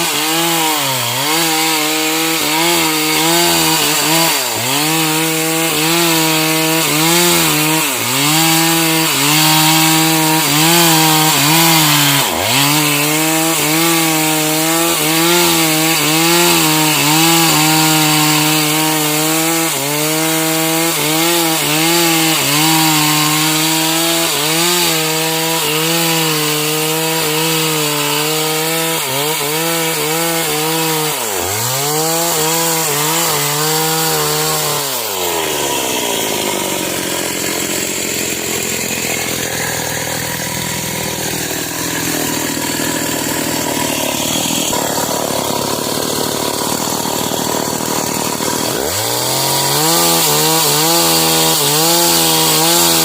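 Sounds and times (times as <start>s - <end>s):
chainsaw running: 0.0s - 53.0s.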